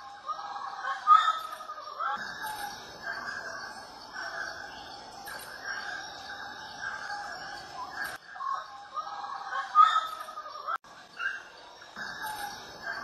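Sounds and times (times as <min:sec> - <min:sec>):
chorus of chirping wildlife: 0:00.0 - 0:13.0.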